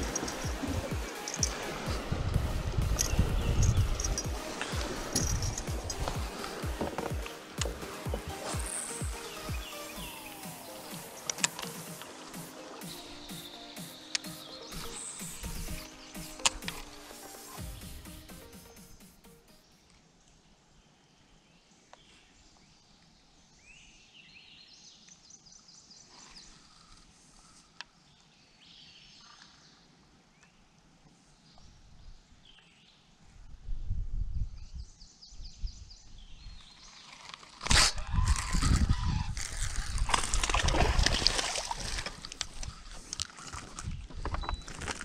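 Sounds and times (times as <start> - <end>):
birds chirping: 0.0 - 33.1, 34.7 - 45.0.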